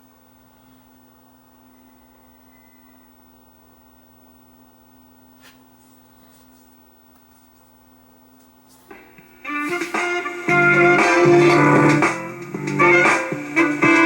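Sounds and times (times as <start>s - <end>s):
tube radio hum and hiss: 0.0s - 14.0s.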